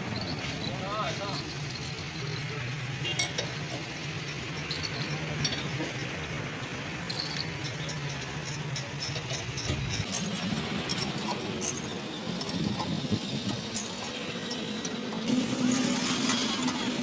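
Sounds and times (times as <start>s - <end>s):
screw jack metal clinks: 0.0s - 6.2s, 7.0s - 15.1s.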